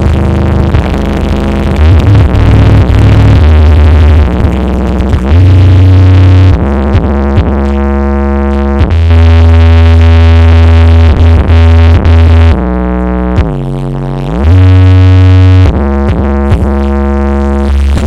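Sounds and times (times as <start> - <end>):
heavy deep bass: 0.0 - 18.0.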